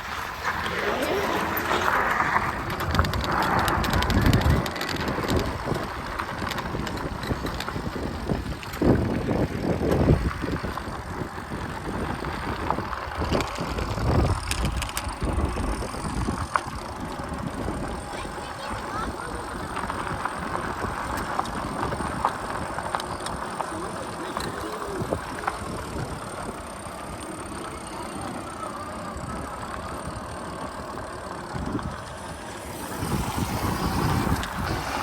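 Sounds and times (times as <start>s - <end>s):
rattles and clicks: 0.0s - 35.0s
wind buffeting microphone: 0.0s - 35.0s.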